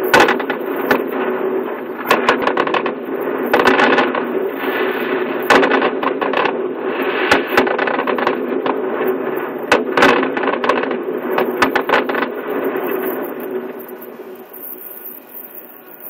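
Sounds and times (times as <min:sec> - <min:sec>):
continuous rumble: 0:00.0 - 0:16.0
fireworks bangs and crackling: 0:00.0 - 0:16.0.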